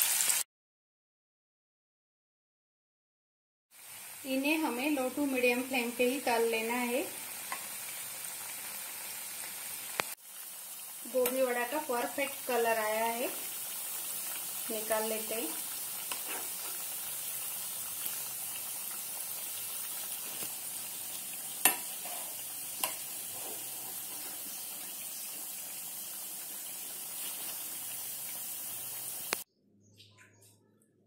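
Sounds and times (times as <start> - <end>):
food sizzling in hot oil: 0.0 - 0.5, 3.7 - 29.4.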